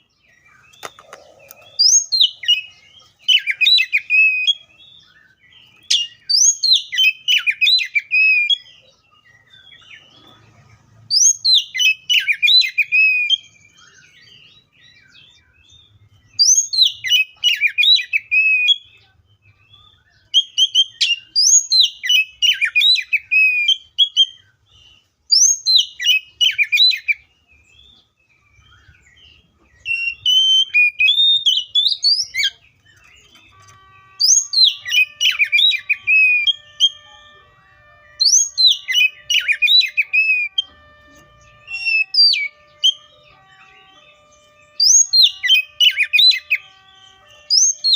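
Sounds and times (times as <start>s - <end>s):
bird singing whistled phrases: 0.3s - 10.3s, 11.1s - 47.9s.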